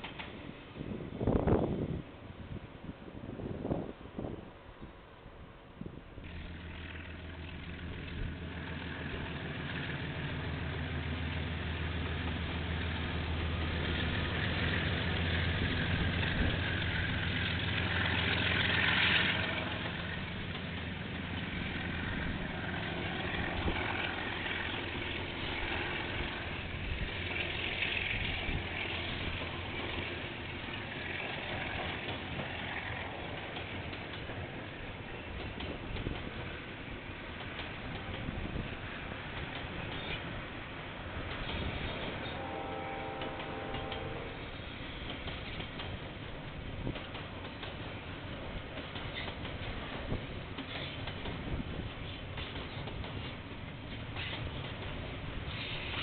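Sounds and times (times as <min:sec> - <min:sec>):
locomotive engine hum: 0:00.0 - 0:56.0
rolling hiss of train: 0:00.0 - 0:56.0.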